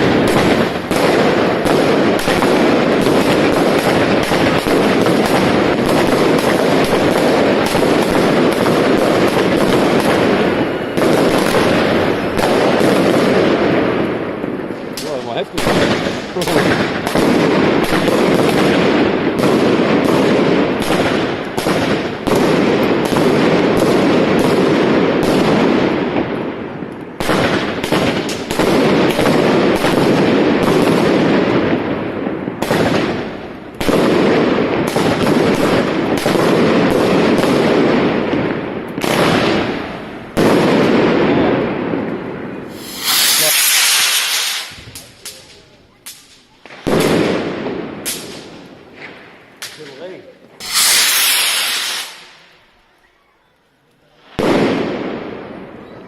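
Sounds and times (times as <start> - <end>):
fireworks crackling and banging: 0.0 - 53.0, 53.7 - 56.0.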